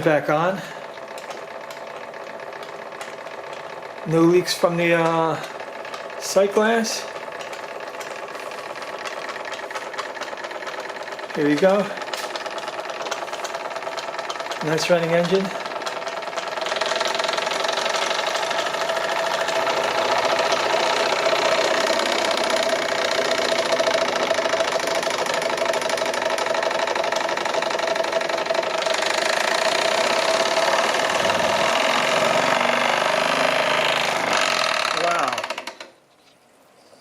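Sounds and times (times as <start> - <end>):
toy steam engine chuffing: 0.0 - 35.9.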